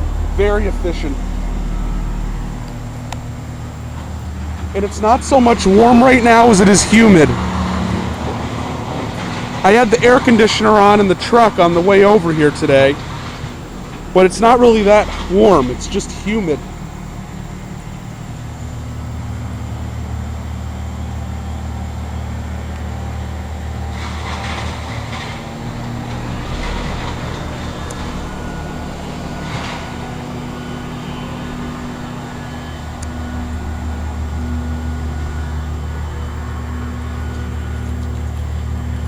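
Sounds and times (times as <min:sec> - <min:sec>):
heat pump unit humming: 0:00.0 - 0:39.0.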